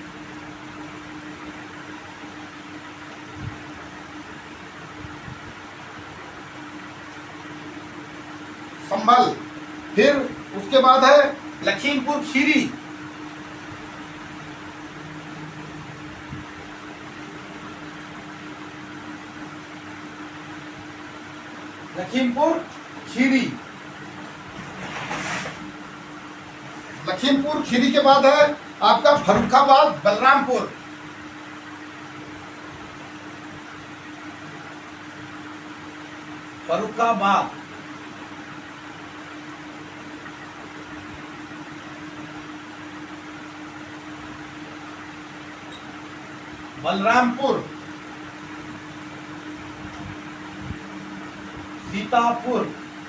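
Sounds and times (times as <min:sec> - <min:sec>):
steady room hum: 0:00.0 - 0:53.0.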